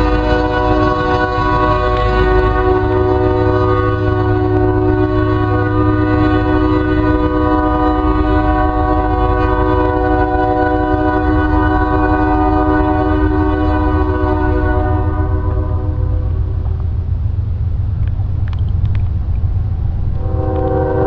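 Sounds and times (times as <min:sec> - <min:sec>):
locomotive air horn blast: 0:00.0 - 0:16.6, 0:20.2 - 0:21.0
low rumble: 0:00.0 - 0:21.0.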